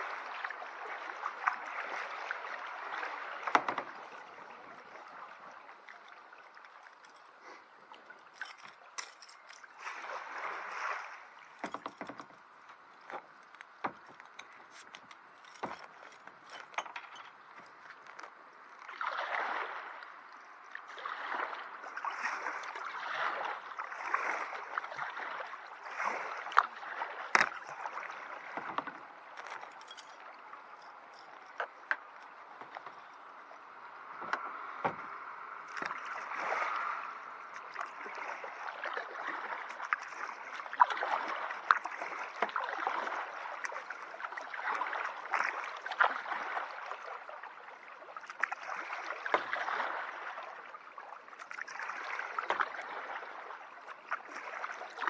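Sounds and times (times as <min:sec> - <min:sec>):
kayak paddle splashing: 0:00.0 - 0:55.0.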